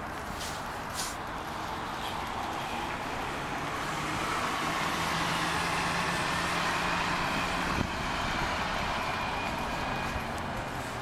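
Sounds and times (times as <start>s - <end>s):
bus engine hum: 0.0s - 11.0s
tyre and road noise: 0.0s - 11.0s.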